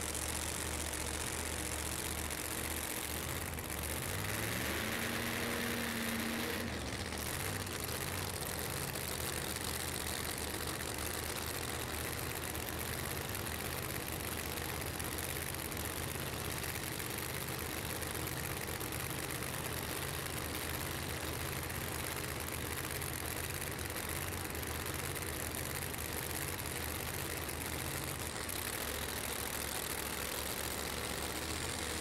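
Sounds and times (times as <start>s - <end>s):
race car engines idling: 0.0s - 32.0s.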